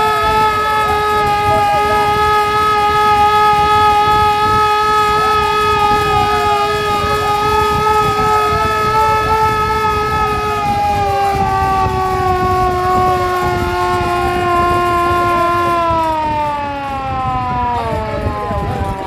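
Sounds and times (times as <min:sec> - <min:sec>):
siren tone sliding down in pitch: 0:00.0 - 0:19.0
warning siren steady high tone: 0:00.0 - 0:19.0.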